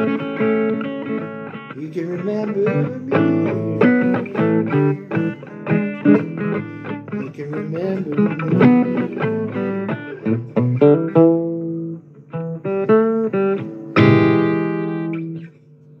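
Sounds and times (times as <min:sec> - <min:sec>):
blues guitar playing: 0:00.0 - 0:15.8.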